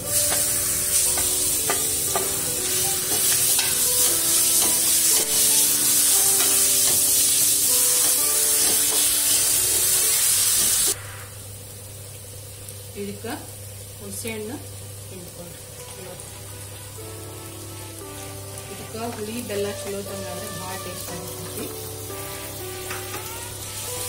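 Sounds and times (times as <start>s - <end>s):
paste sizzling in hot oil: 0.0s - 11.2s, 15.1s - 24.0s.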